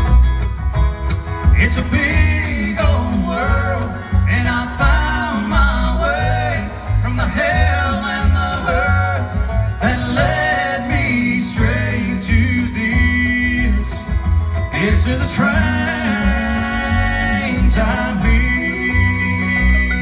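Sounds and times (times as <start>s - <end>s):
bluegrass band playing: 0.0s - 20.0s
upright bass plucking: 0.0s - 20.0s
person singing lead melody: 1.5s - 20.0s.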